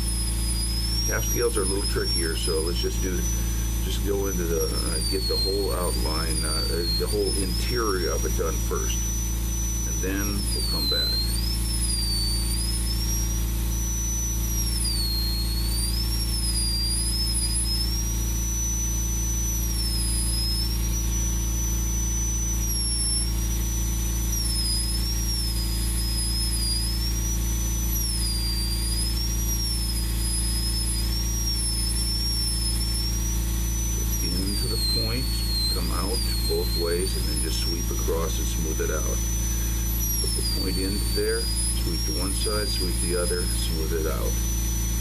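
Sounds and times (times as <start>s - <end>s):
rotary carving tool whining: 0.0s - 45.0s
steady low hum: 0.0s - 45.0s.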